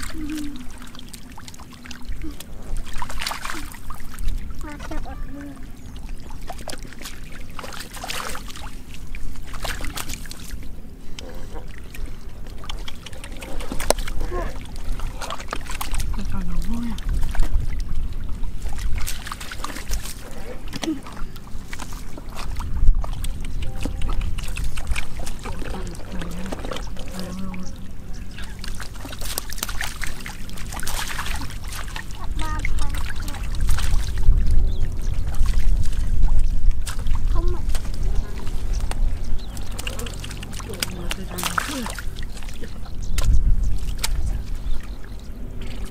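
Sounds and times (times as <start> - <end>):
fish splashing in muddy water: 0.0 - 45.9.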